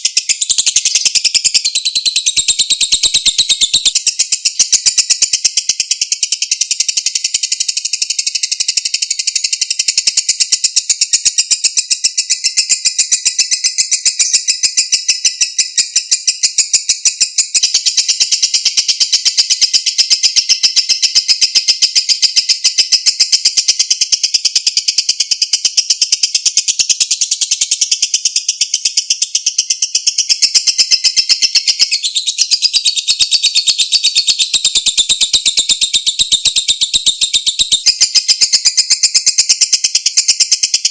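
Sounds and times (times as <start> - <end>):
bird chattering trill: 0.0 - 40.9.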